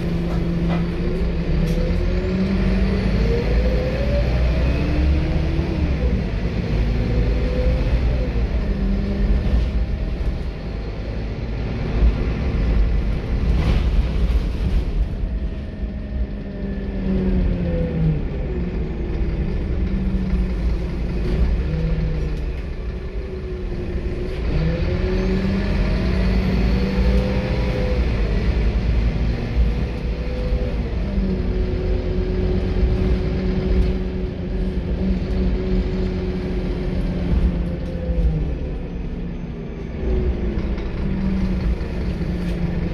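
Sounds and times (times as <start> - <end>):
bus diesel engine revving: 0.0 - 14.1, 16.2 - 42.9.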